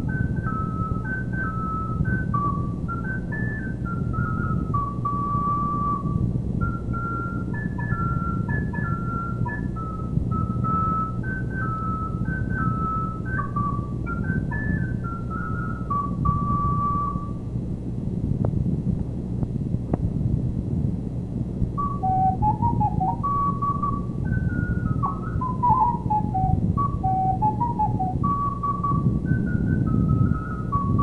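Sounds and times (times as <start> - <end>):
recorder melody: 0.0 - 17.6, 21.7 - 31.0
low background hum: 0.0 - 31.0.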